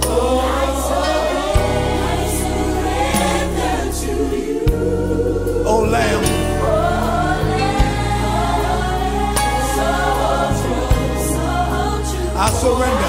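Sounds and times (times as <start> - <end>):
gospel choir singing: 0.0 - 13.0
low bass notes: 0.0 - 13.0.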